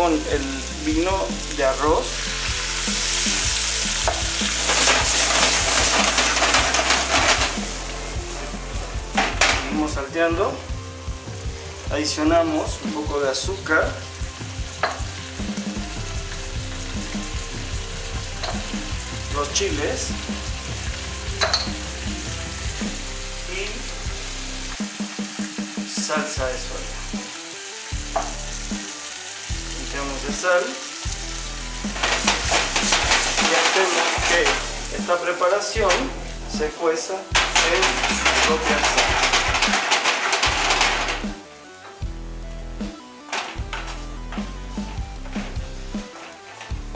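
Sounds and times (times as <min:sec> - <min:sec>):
food sizzling in a wok: 0:00.0 - 0:46.9.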